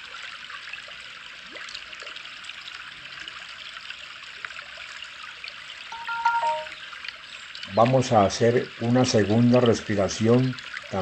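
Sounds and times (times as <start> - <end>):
running water trickling: 0.0 - 11.0.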